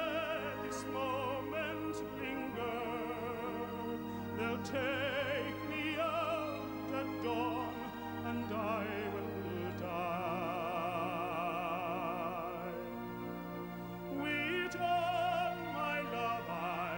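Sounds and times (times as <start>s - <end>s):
person singing with vibrato: 0.0s - 13.0s, 14.1s - 16.9s
orchestral accompaniment: 0.0s - 16.9s.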